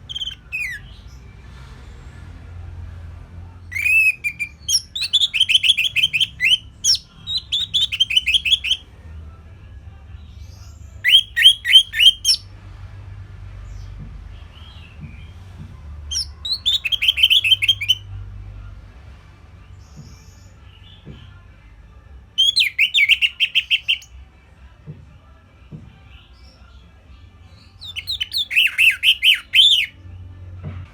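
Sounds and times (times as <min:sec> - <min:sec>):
thrush singing: 0:00.0 - 0:30.4.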